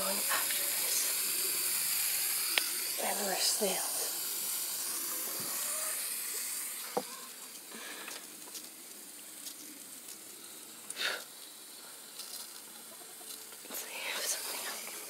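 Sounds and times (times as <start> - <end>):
water hissing from hose: 0.0 - 15.0.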